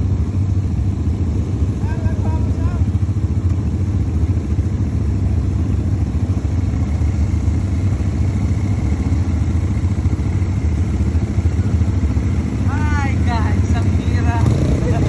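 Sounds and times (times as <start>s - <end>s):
quad bike engine rumbling: 0.0s - 15.0s.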